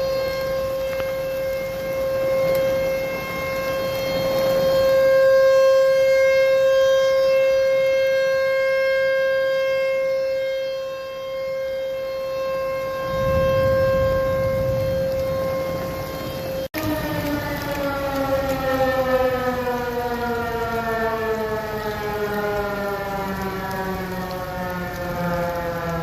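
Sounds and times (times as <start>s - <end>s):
rotating siren steady tone: 0.0s - 26.0s.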